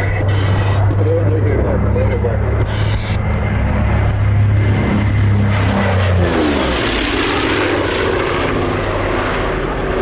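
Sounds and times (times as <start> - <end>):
propeller aircraft fly-by: 0.0 - 10.0.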